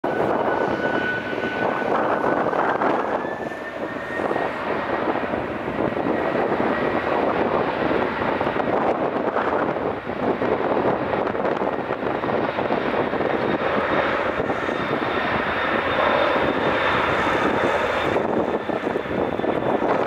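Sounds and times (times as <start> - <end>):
jet engines at high power: 0.0 - 20.0.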